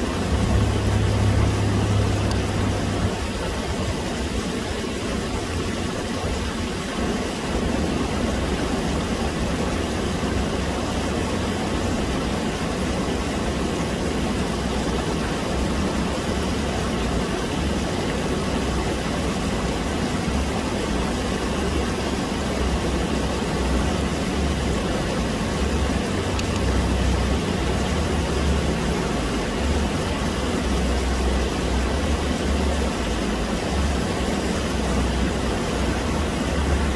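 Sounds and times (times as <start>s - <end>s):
low rumble of water: 0.0s - 36.9s
stream water rushing over rocks: 0.0s - 36.9s.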